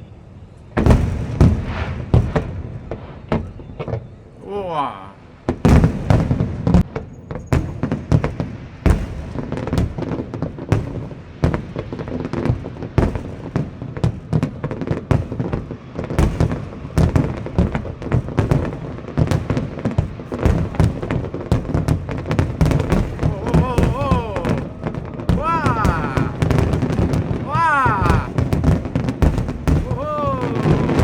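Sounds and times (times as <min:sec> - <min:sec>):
fireworks bangs and crackles: 0:00.7 - 0:04.8, 0:05.4 - 0:31.0.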